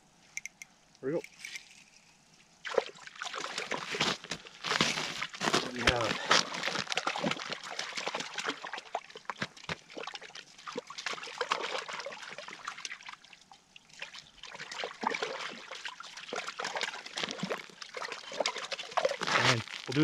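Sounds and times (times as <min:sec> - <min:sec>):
water sloshing and splashing: 0:02.6 - 0:20.0.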